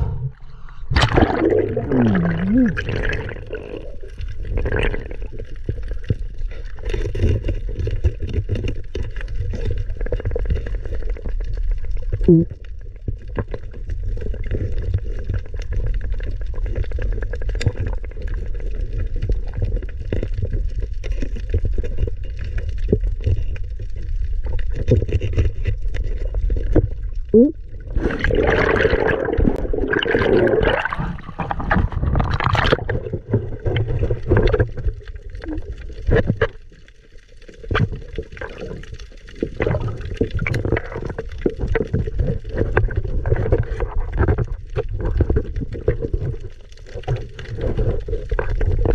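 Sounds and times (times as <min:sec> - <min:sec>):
air bubbles: 0:00.0 - 0:48.9
underwater rumble of moving water: 0:00.0 - 0:48.9.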